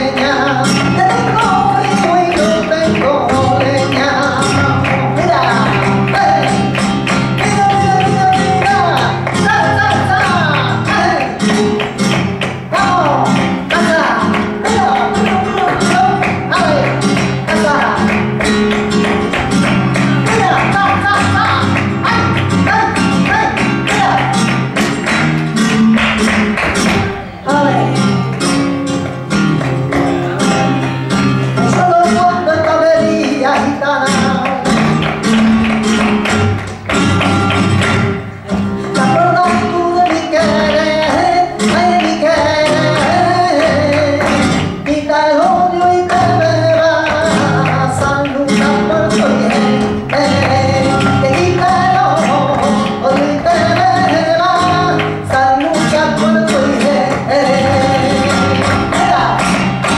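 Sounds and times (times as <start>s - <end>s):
flamenco guitar runs: 0.0s - 59.9s.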